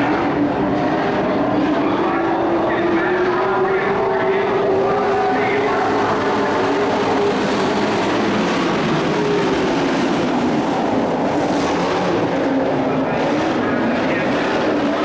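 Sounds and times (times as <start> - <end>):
race truck engines running hard: 0.0 - 15.0.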